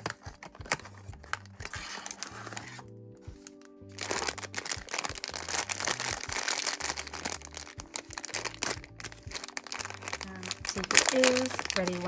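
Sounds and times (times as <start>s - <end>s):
foil bag crinkling and tearing: 0.0s - 12.0s.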